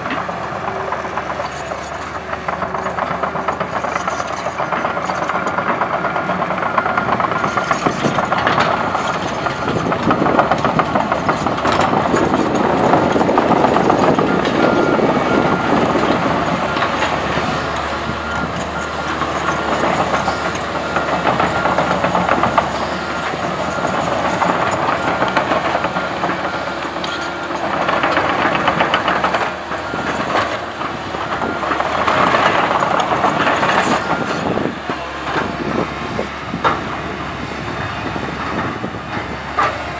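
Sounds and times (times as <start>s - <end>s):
excavator diesel engine: 0.0s - 39.9s
rattling clanking machinery: 0.0s - 39.9s.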